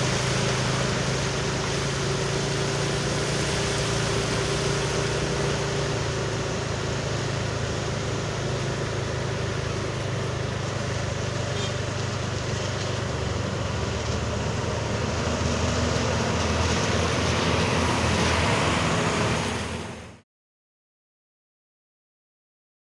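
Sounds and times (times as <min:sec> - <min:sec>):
bus engine running: 0:00.0 - 0:20.2
traffic noise: 0:00.0 - 0:20.2.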